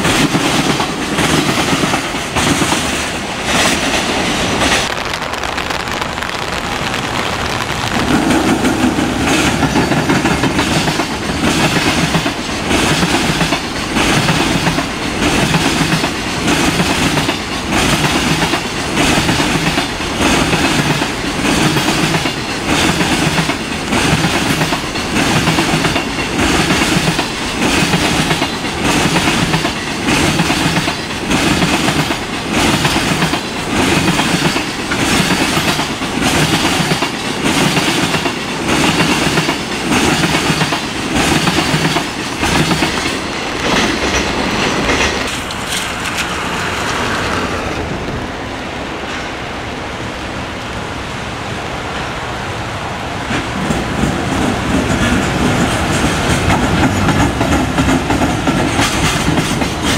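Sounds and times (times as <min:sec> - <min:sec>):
train wheels clattering over rail joints: 0:00.0 - 0:04.9, 0:07.7 - 0:47.5, 0:53.2 - 0:59.9.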